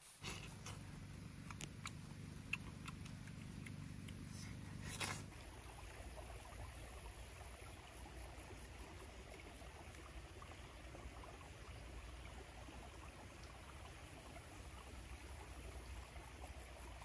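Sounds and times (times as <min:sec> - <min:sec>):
stream babbling: 0:00.0 - 0:17.0.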